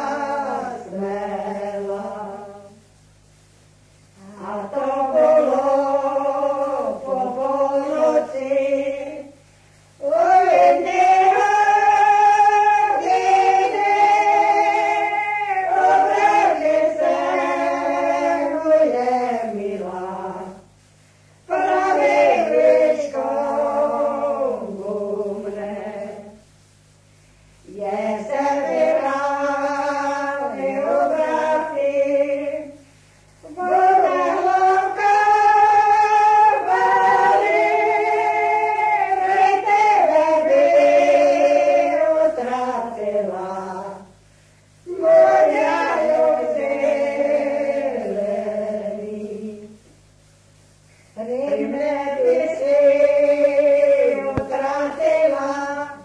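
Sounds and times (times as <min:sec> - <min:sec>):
choir singing: 0:00.0 - 0:02.8, 0:04.2 - 0:09.3, 0:10.0 - 0:20.6, 0:21.5 - 0:26.4, 0:27.7 - 0:32.8, 0:33.4 - 0:44.1, 0:44.9 - 0:49.8, 0:51.2 - 0:56.0.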